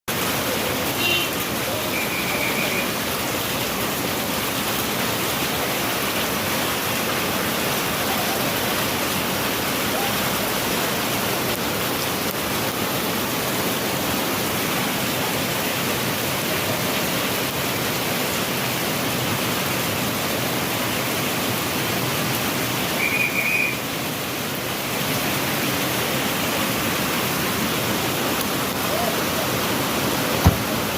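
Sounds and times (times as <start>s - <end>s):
heavy rain: 0.1s - 30.9s.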